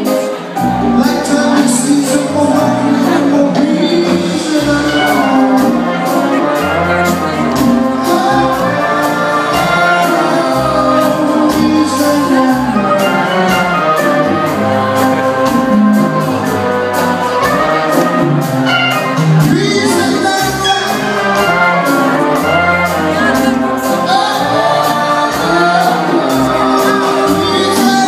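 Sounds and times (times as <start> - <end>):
horns playing: 0.0 - 28.0
congas: 0.1 - 28.0
steady drum beat: 0.1 - 28.0.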